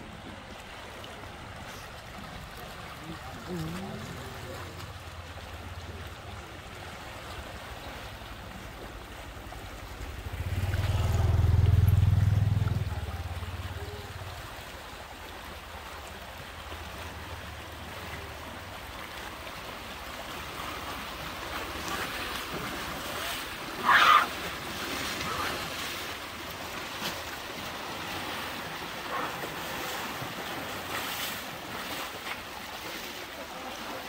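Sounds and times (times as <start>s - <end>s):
water sloshing and splashing: 0.0s - 34.0s.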